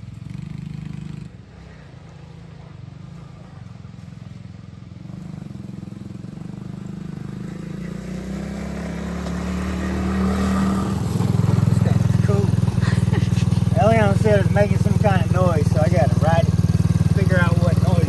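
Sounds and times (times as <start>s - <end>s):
small quad bike engine running: 0.0s - 18.0s.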